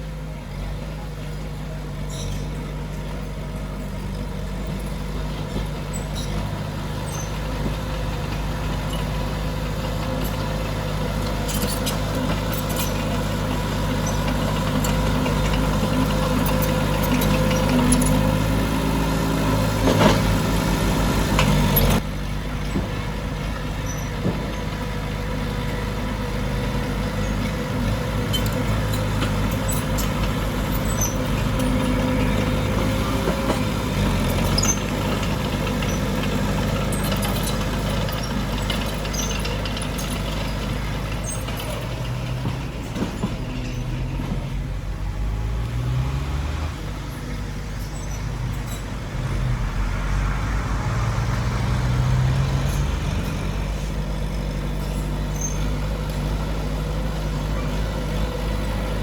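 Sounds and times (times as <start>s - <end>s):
diesel engines revving under load: 0.0s - 59.0s.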